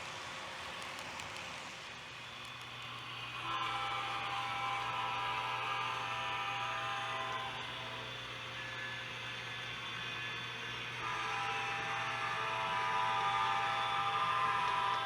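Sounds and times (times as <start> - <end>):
model train motor whine: 1.0 - 15.0.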